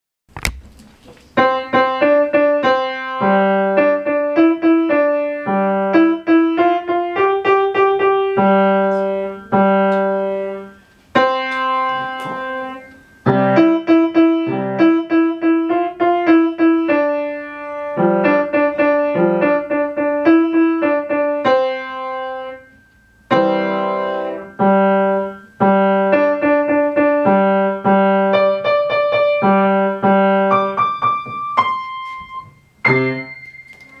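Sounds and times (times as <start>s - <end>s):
child playing piano: 1.4s - 34.0s.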